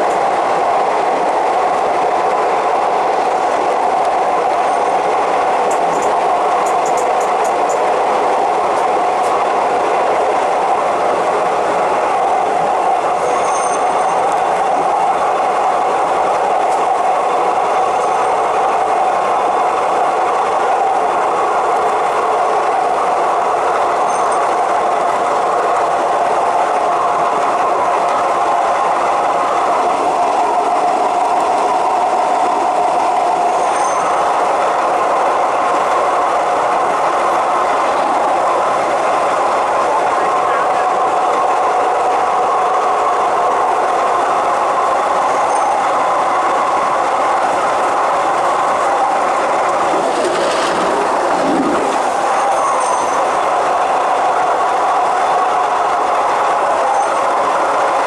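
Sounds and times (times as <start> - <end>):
train running on track: 0.0 - 58.0.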